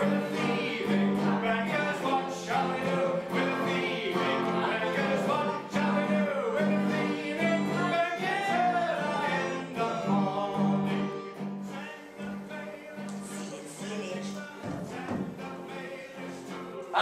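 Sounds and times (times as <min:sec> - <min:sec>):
small band playing: 0:00.0 - 0:17.0.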